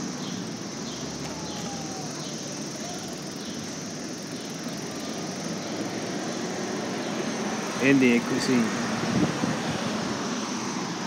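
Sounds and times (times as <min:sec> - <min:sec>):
street ambience: 0:00.0 - 0:11.0.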